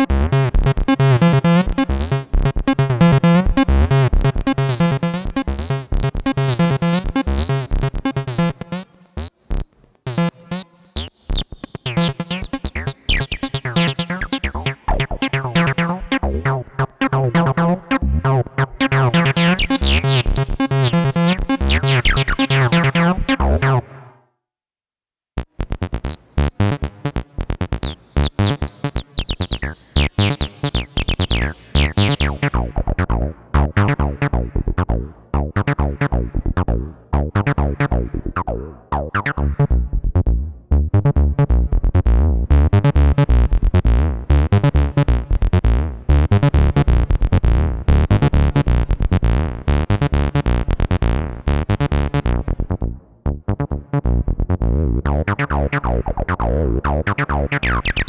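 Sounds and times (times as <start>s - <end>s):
acid bassline synthesizer: 0.0s - 24.0s, 25.4s - 58.0s.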